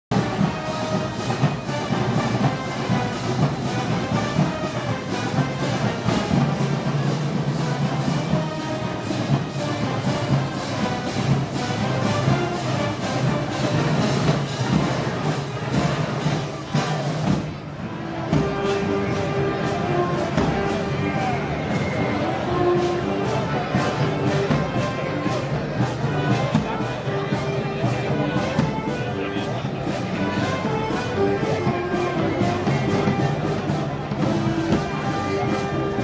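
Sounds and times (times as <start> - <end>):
brass band playing: 0.1 - 36.0
drums beating: 0.1 - 36.0.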